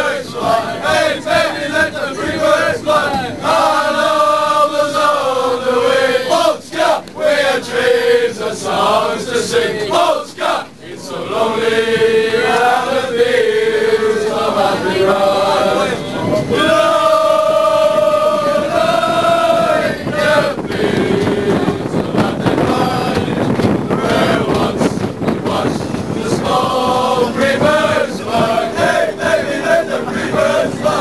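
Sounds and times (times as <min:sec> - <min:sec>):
crowd singing a chant: 0:00.0 - 0:31.0.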